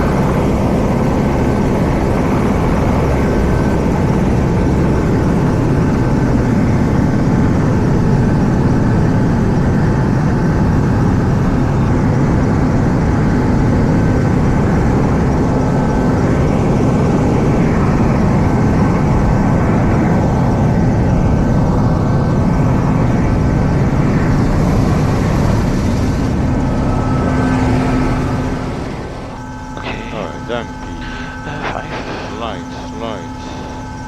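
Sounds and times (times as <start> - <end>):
helicopter idling drone and whine: 0.0 - 12.6, 13.7 - 34.0.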